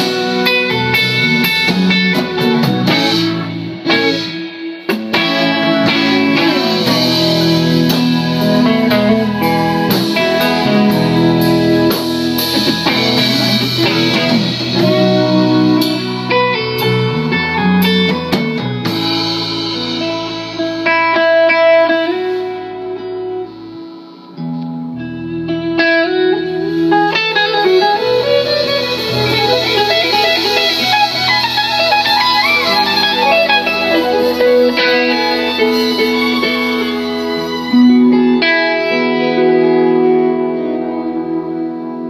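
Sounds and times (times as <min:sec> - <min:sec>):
electric guitar: 0:00.0 - 0:42.0
rock band playing live: 0:00.0 - 0:42.0.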